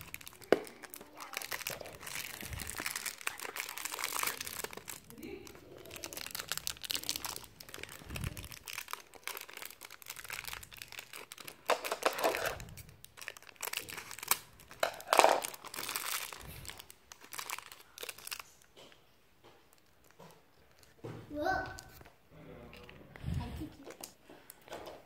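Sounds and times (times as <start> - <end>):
plastic wrapper crinkling: 0.0 - 21.0, 23.7 - 25.0.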